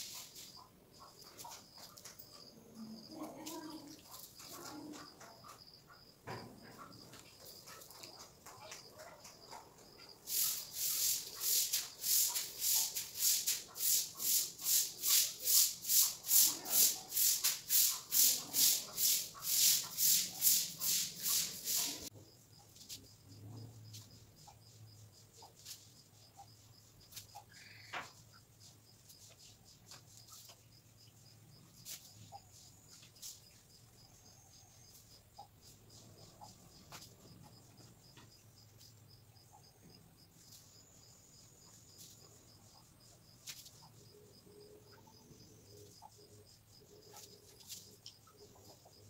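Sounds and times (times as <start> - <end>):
faint high-pitched chirping: 0.0 - 49.0.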